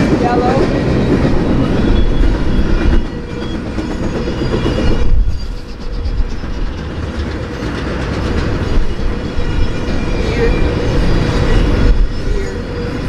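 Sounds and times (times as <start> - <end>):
steel wheels rumbling on rails: 0.0 - 13.0
wheels clacking over rail joints: 0.0 - 13.0.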